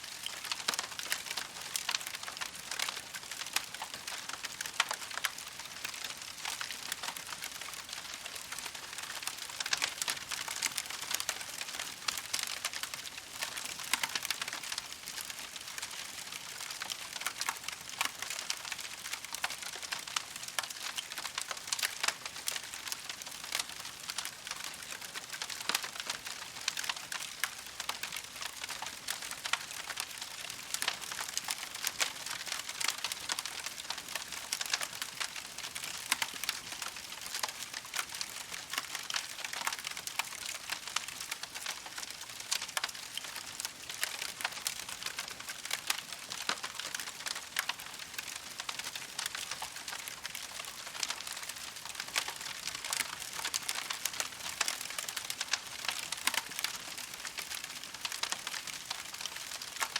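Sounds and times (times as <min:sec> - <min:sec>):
campfire crackling: 0:00.1 - 0:59.9.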